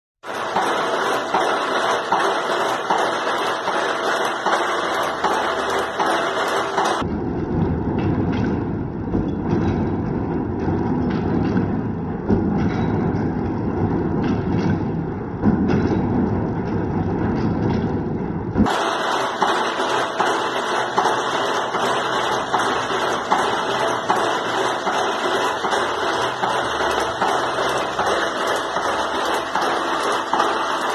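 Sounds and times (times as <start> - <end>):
shaper machine clattering: 0.2 - 30.9.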